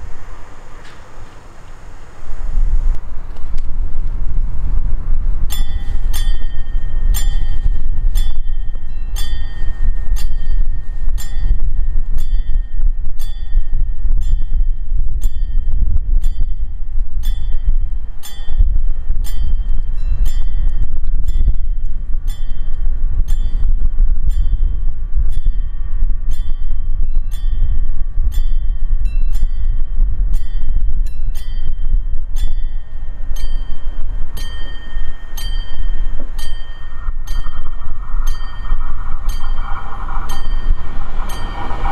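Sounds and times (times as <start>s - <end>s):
railway warning bell ringing: 0.0s - 2.5s, 5.4s - 41.9s
loud low rumble: 0.0s - 41.9s.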